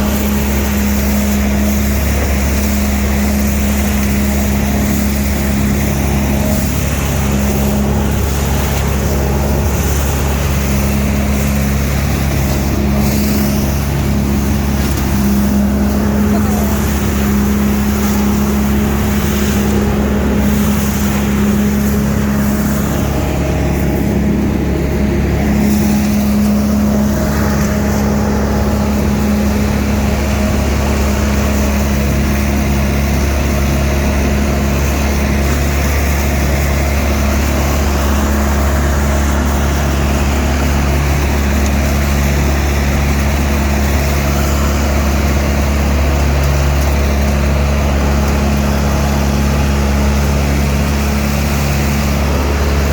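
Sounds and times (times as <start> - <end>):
leaf vacuum engine drone: 0.0 - 52.9.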